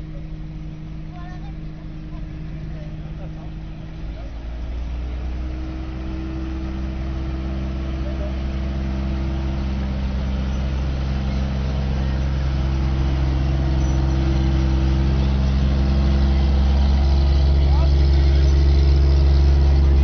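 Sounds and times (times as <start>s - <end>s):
vehicle engine driving past: 0.0s - 20.0s.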